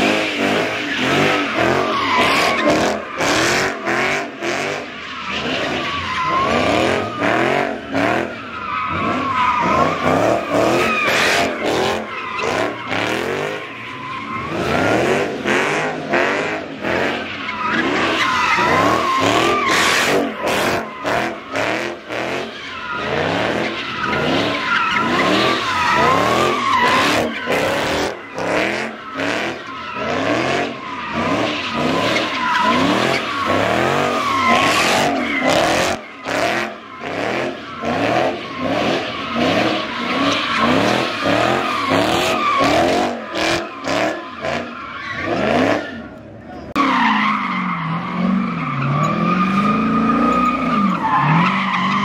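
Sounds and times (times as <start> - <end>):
car engine revving: 0.0 - 52.0
tires squealing: 0.0 - 52.0.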